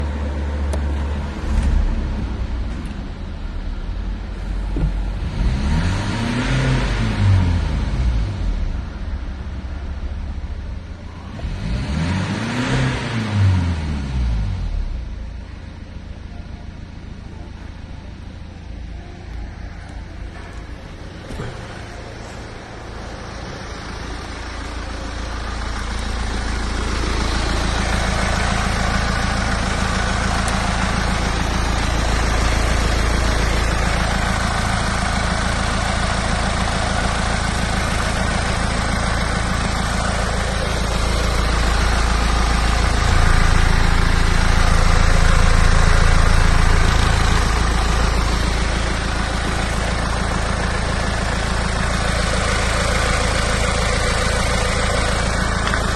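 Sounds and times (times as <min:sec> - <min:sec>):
diesel engine idling and revving: 0:00.0 - 0:55.9.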